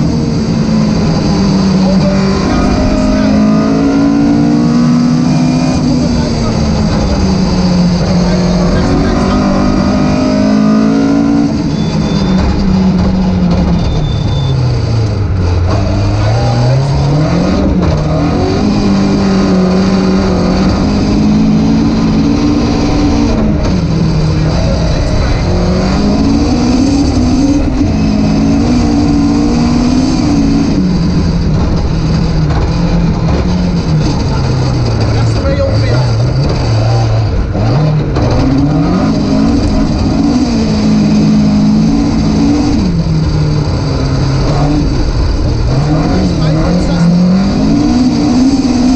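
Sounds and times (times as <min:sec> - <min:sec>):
rally car engine revving: 0:00.0 - 0:48.9
tyre and road noise: 0:00.0 - 0:48.9.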